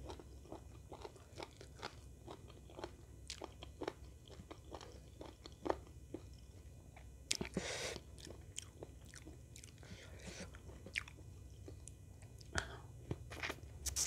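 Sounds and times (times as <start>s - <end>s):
person chewing with wet clicks: 0.0s - 13.6s.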